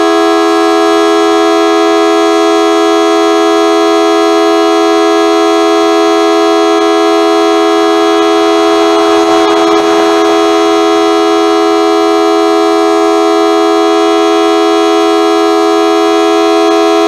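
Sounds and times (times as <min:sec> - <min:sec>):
dual-tone warning siren: 0:03.3 - 0:17.0.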